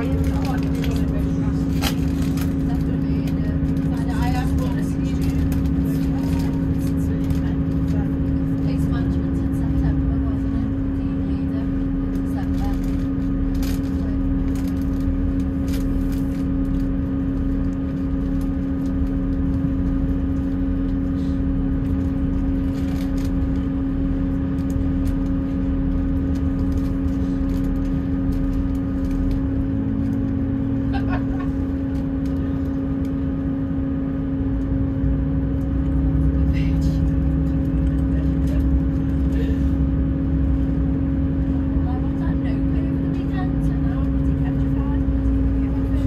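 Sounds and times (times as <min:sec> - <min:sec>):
train diesel engine hum: 0:00.0 - 0:46.0.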